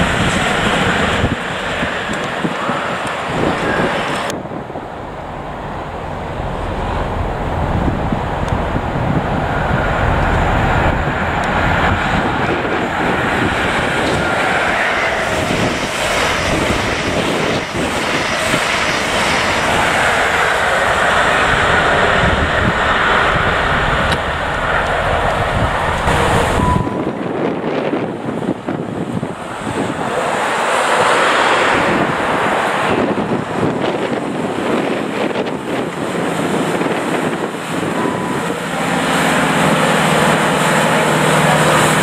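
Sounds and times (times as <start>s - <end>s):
diesel engine whine: 0.0s - 42.0s
train coaches rushing past: 0.0s - 42.0s.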